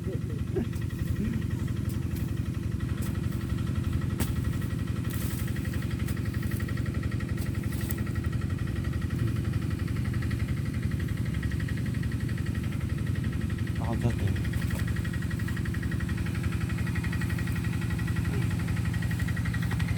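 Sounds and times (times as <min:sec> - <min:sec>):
small engine idling: 0:00.0 - 0:19.9.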